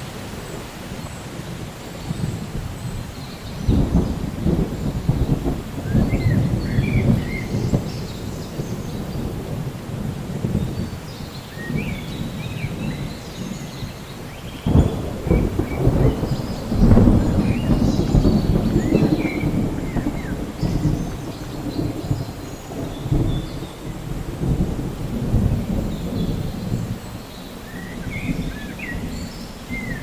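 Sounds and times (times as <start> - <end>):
steady rain: 0.0 - 30.0
rolling thunder: 1.4 - 30.0.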